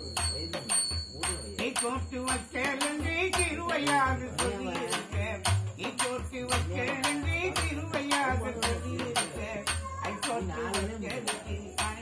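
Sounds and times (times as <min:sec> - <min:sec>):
man singing: 0:00.0 - 0:12.0
sharp rattling drum strokes: 0:00.0 - 0:12.0.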